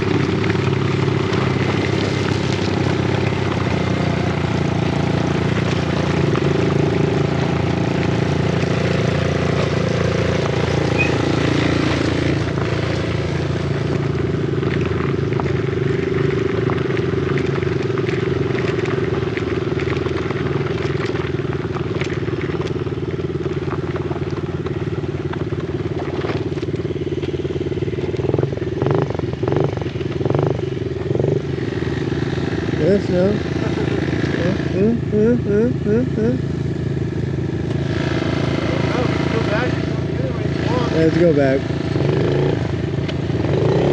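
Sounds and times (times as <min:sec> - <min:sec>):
small motorcycle engine running: 0:00.0 - 0:43.9.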